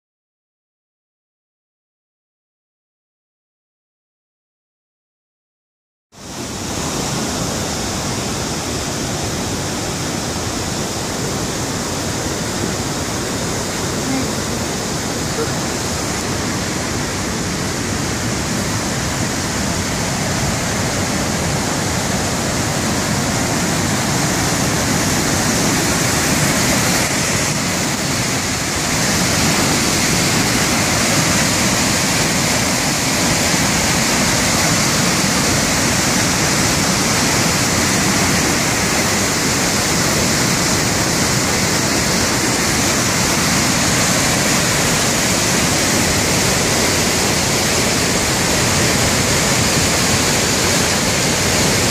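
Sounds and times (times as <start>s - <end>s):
waterfall roaring: 6.2s - 51.9s.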